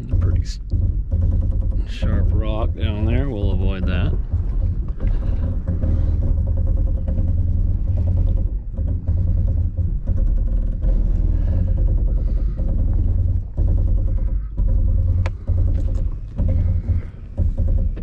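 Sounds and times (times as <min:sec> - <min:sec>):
grinding buzz of pulsing brakes: 0:00.0 - 0:18.0
low vehicle rumble: 0:00.0 - 0:18.0.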